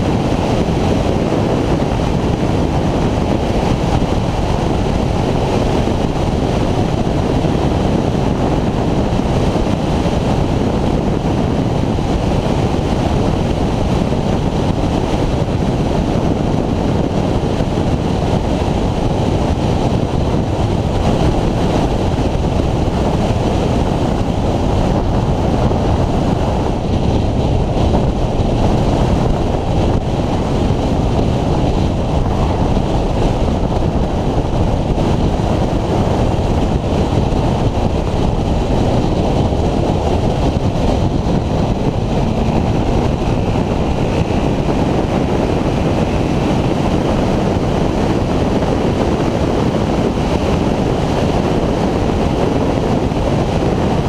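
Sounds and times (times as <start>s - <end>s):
motorcycle engine cruising: 0.0s - 52.3s
road noise: 0.0s - 54.0s
wind buffeting microphone: 0.0s - 54.0s.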